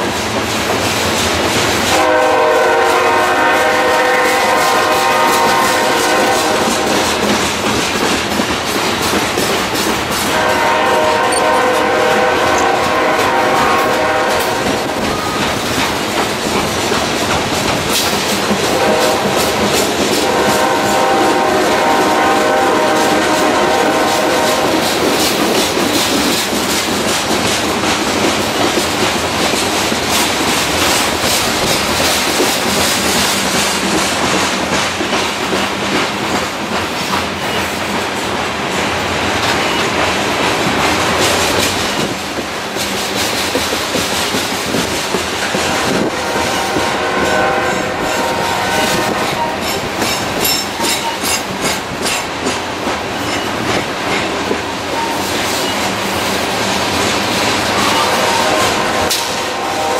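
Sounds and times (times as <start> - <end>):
train wheels clattering over rail joints: 0.0 - 46.9, 48.2 - 59.4.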